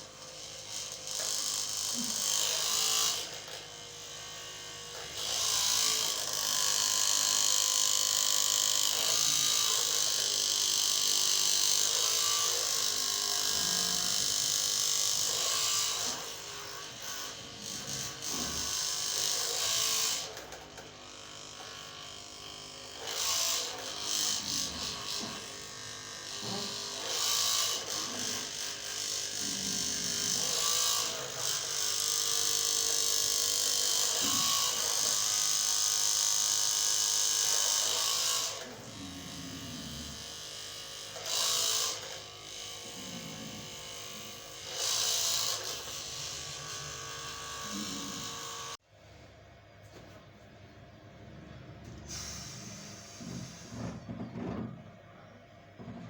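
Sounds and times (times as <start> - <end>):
electric massager buzzing: 0.0 - 48.8, 50.9 - 54.8.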